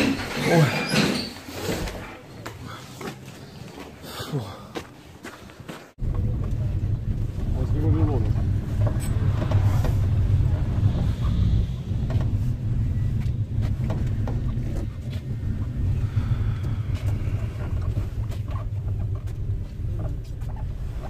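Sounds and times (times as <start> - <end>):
minibus engine and road rumble: 0.0 - 21.0.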